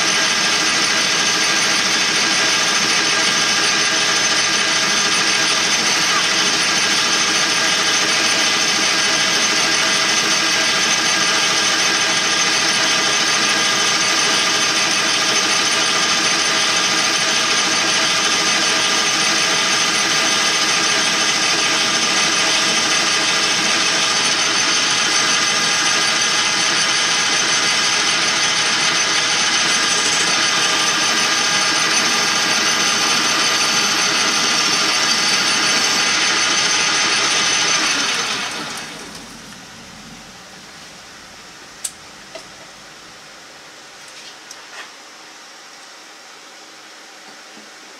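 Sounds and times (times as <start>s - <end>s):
metal lathe cutting whine: 0.0s - 44.2s.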